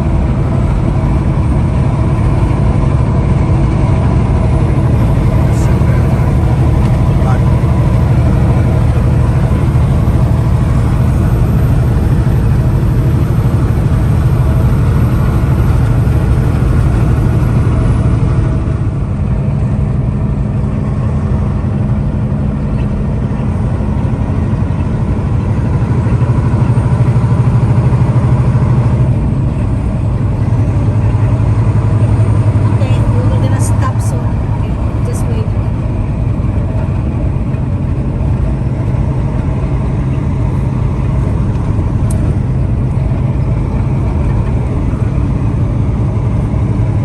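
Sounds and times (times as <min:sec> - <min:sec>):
truck engine droning: 0:00.0 - 0:47.0.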